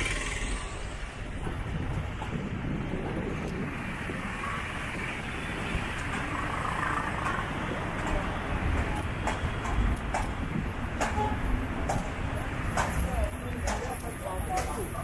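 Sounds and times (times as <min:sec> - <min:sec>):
city street traffic: 0:00.0 - 0:15.0
vehicles passing close by: 0:00.0 - 0:15.0.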